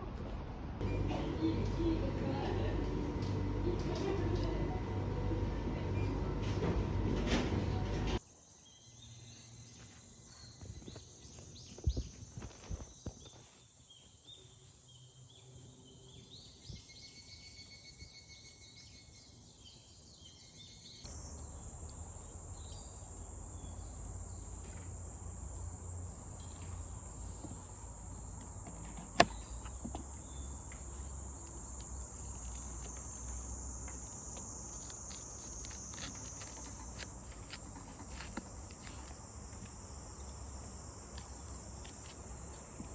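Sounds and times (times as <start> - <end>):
crickets chirping: 0.8 - 42.9.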